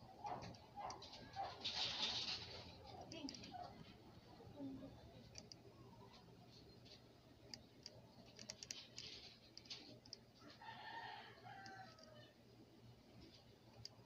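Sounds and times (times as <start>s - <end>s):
light clicks and ticks: 0.2s - 4.3s, 5.2s - 10.7s, 11.4s - 12.3s, 13.2s - 14.0s.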